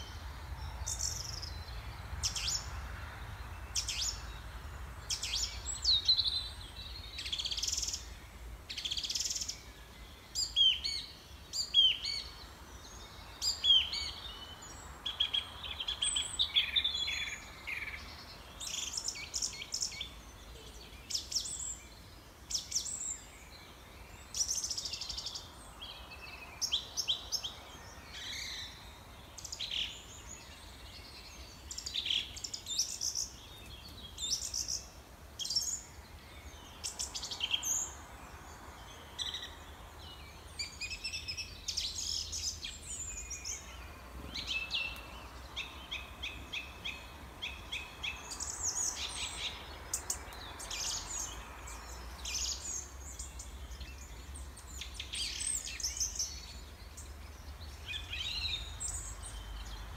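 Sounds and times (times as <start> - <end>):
birds chirping and singing: 3.5 - 59.9.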